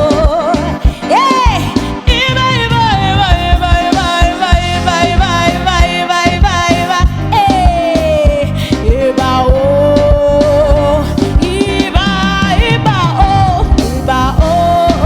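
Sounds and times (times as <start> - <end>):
gospel praise music: 0.0 - 15.0.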